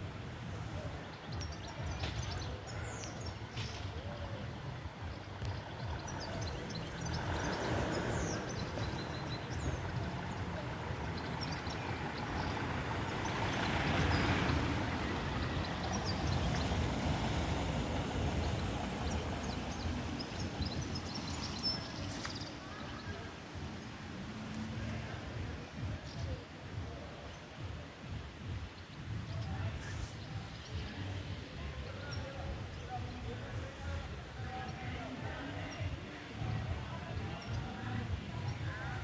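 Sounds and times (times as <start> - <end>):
rushing outdoor noise with rumble: 0.0 - 39.0.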